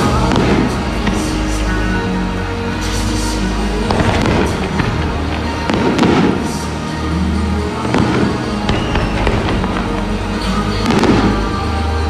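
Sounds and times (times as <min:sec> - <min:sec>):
background music: 0:00.0 - 0:12.0
fireworks crackling: 0:00.0 - 0:12.0.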